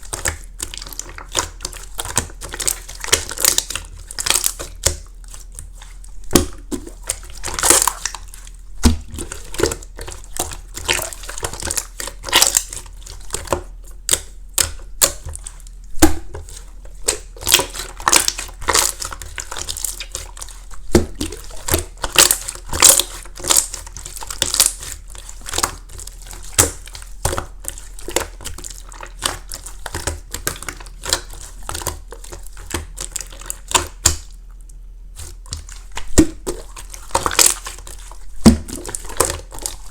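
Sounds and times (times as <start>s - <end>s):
slime squeezed crackling and popping: 0.0s - 34.3s, 35.4s - 39.9s.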